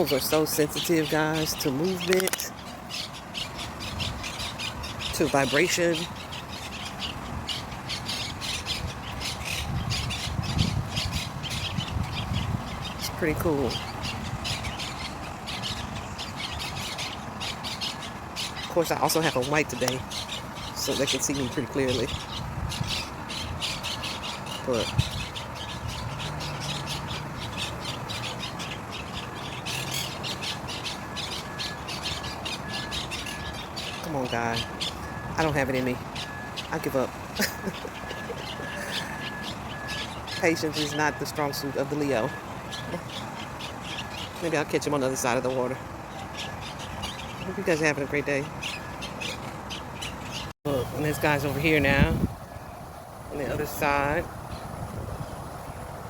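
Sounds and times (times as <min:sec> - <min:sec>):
parakeets squawking: 0:00.0 - 0:55.8.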